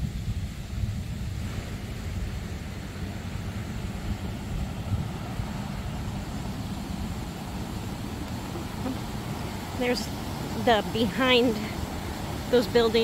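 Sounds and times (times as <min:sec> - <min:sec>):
faint hiss: 0:00.0 - 0:13.0
wind buffeting microphone: 0:00.0 - 0:13.0.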